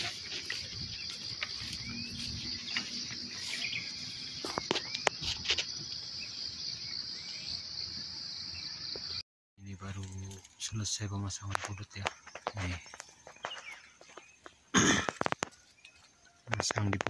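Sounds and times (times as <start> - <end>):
insect chorus drone: 0.0 - 17.0
sharp chirps and clicks: 0.0 - 17.0.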